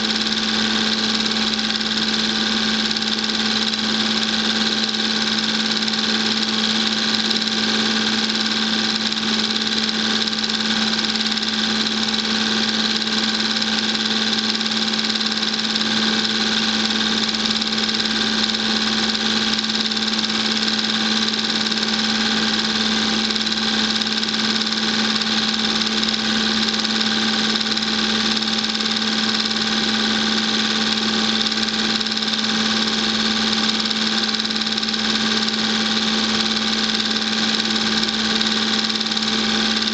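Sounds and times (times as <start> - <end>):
film projector motor whirring: 0.0 - 39.9.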